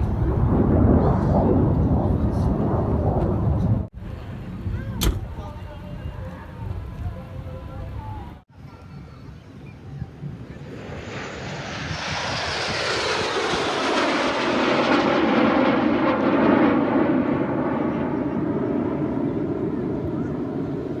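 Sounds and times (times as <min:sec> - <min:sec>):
aircraft engine flying past: 0:00.0 - 0:08.4, 0:10.1 - 0:21.0.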